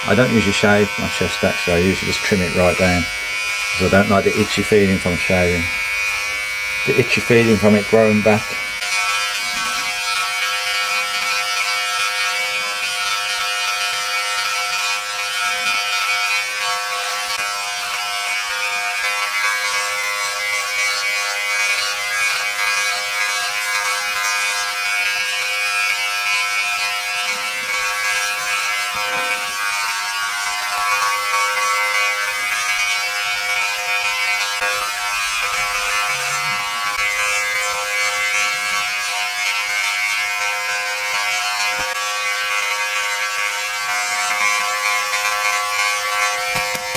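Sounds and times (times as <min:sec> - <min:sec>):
body trimmer buzzing: 0:00.0 - 0:46.9.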